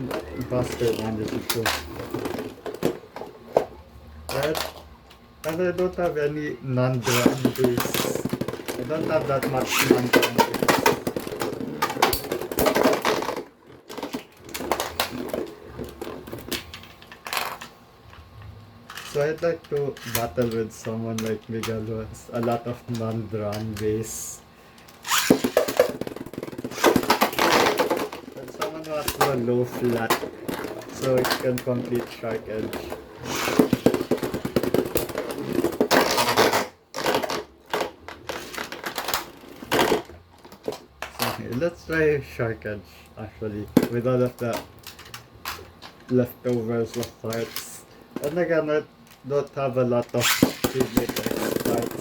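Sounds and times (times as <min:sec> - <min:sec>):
plastic parts clicking and rattling: 0:00.0 - 0:03.7, 0:04.3 - 0:06.3, 0:06.9 - 0:18.3, 0:18.9 - 0:42.0, 0:43.6 - 0:52.0.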